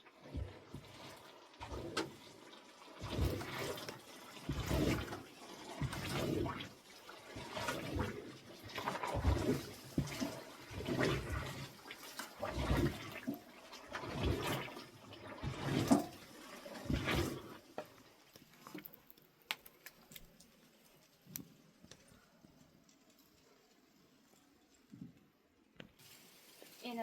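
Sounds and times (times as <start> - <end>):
water sloshing and splashing: 0.0 - 25.2, 26.0 - 27.0.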